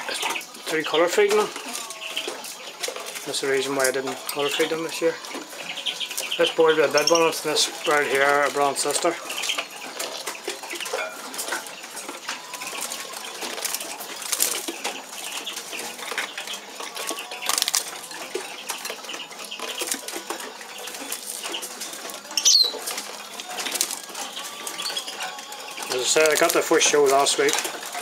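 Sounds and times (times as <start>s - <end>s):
bird feet clicking on perches: 0.0s - 28.0s
high falling bird call: 0.0s - 28.0s.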